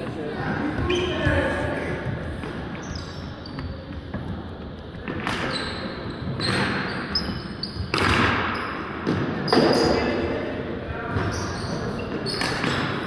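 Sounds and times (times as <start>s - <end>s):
sneakers squeaking on wooden floor: 0.0s - 10.4s, 11.0s - 13.0s.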